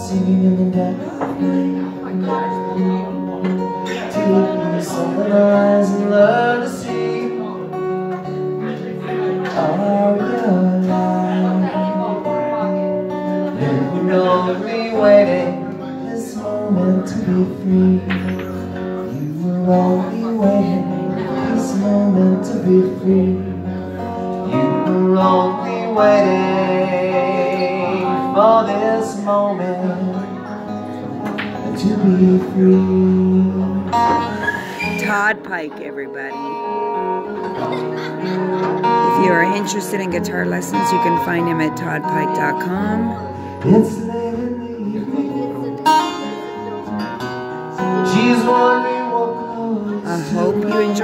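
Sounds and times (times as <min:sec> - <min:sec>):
man singing into a microphone: 0:00.0 - 0:36.5, 0:38.8 - 0:51.0
acoustic guitar strumming: 0:00.0 - 0:51.0.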